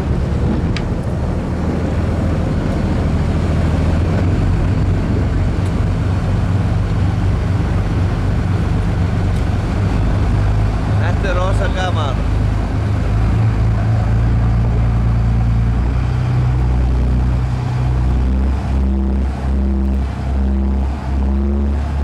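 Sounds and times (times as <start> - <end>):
wind rushing: 0.0 - 21.2
churning wake water: 0.0 - 22.0
motorboat engine droning: 0.0 - 22.0.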